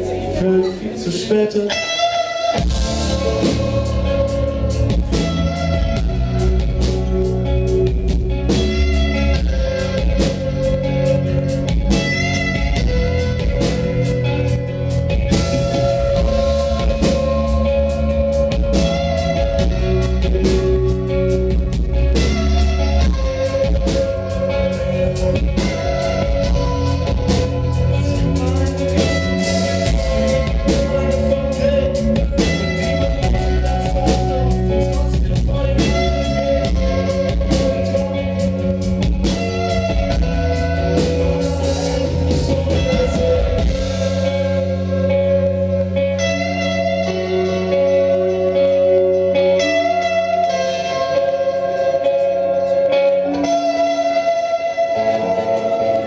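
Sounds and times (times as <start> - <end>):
electric guitars: 0.0 - 56.0
drum kit: 2.4 - 51.6.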